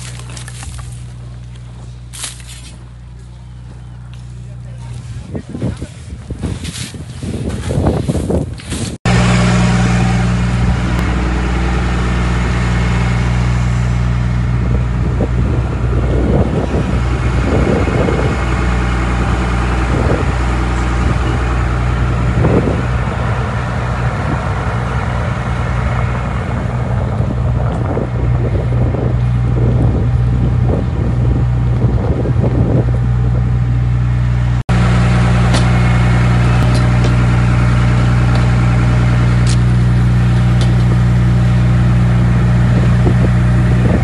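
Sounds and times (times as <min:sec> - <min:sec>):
fire truck engine humming: 0:00.0 - 0:05.4, 0:08.6 - 0:44.0
wind buffeting microphone: 0:03.6 - 0:11.2, 0:12.8 - 0:44.0.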